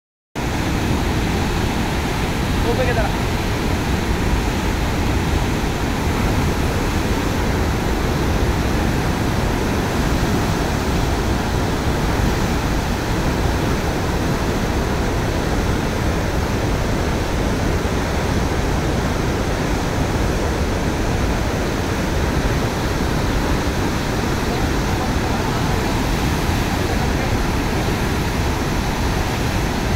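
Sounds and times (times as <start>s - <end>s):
floodwater rushing through spillway: 0.4s - 29.9s.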